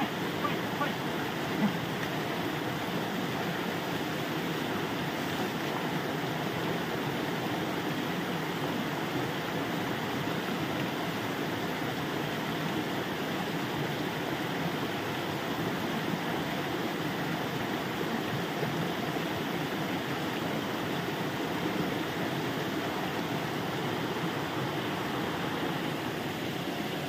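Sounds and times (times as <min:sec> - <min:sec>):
stream and small waterfall rushing: 0:00.0 - 0:27.0.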